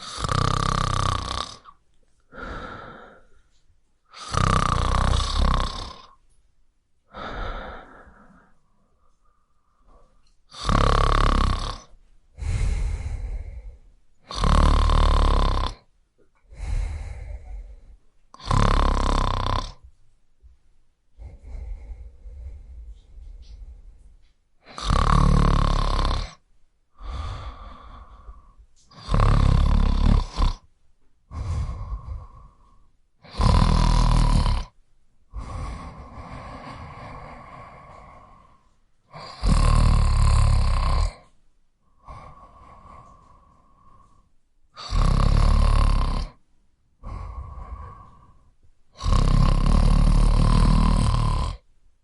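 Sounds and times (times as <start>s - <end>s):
person snoring: 0.0s - 3.4s, 4.1s - 6.2s, 7.1s - 8.6s, 9.8s - 15.9s, 16.5s - 19.8s, 21.2s - 24.0s, 24.6s - 30.7s, 31.3s - 46.4s, 47.0s - 51.7s.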